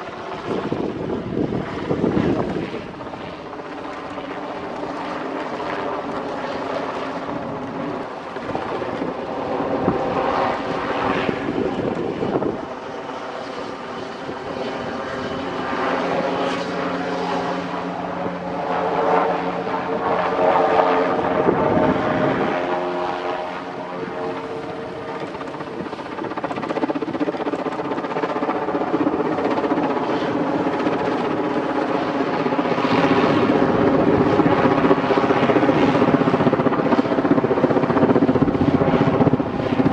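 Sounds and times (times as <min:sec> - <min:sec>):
helicopter flying overhead: 0:00.0 - 0:39.9.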